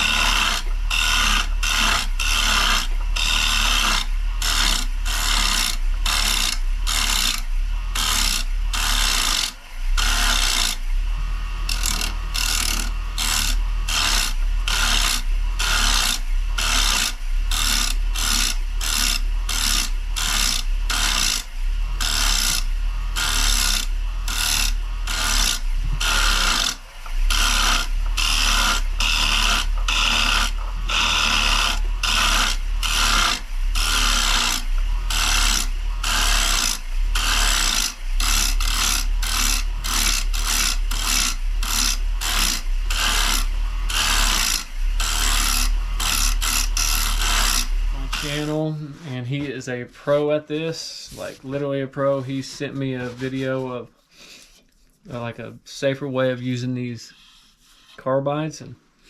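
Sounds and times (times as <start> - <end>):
lathe motor humming: 0.0 - 48.7
turning tool scraping wood: 0.0 - 55.2, 57.1 - 58.2.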